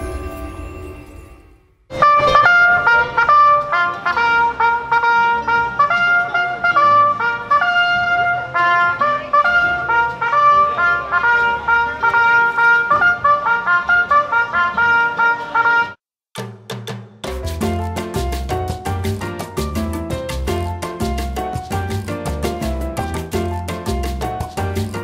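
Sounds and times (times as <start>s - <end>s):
trumpet melody: 1.9s - 16.0s, 17.4s - 25.0s.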